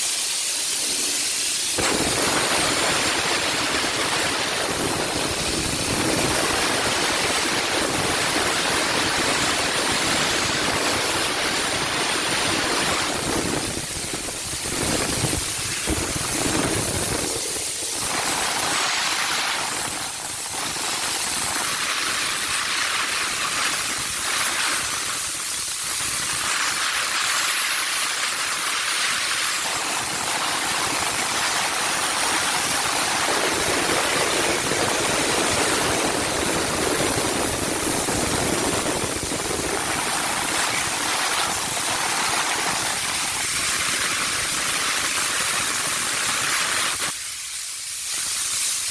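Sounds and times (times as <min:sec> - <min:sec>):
steam gun hissing: 0:00.0 - 0:48.9.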